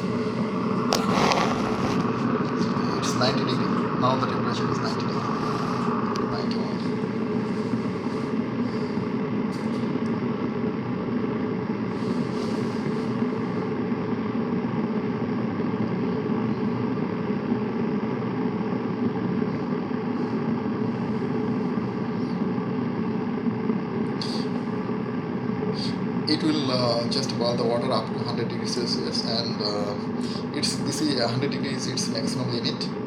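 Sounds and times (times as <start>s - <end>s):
electric kettle rumbling: 0.0s - 33.0s.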